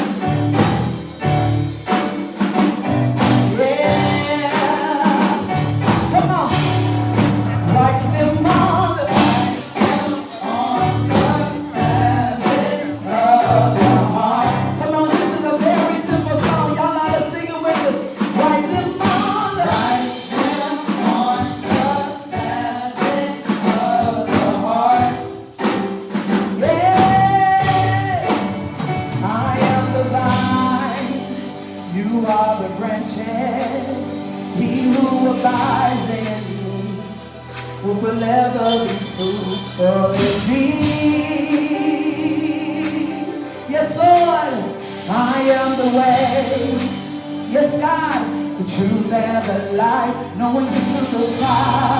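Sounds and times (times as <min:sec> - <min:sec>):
band playing steady beat: 0:00.0 - 0:51.9
singers singing: 0:03.2 - 0:51.9.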